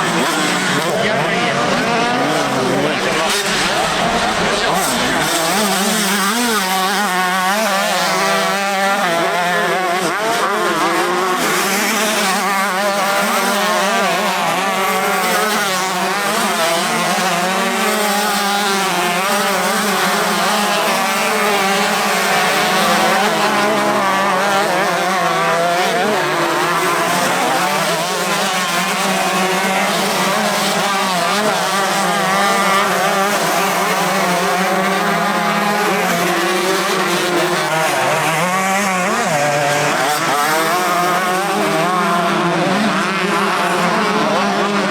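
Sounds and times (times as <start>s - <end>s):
motocross bikes racing: 0.0s - 44.9s.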